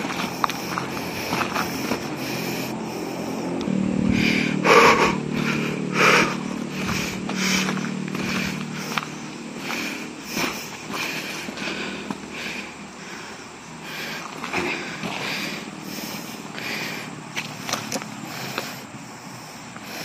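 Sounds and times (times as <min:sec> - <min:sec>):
footsteps crunching on dry leaves: 0:00.0 - 0:03.8, 0:05.3 - 0:18.8
steady low hum: 0:00.0 - 0:20.0.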